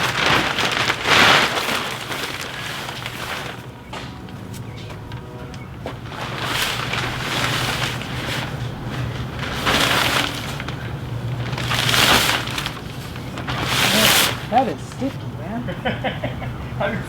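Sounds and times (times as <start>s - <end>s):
sheet crinkling and rustling: 0.0s - 16.0s
steady low hum: 0.0s - 17.0s.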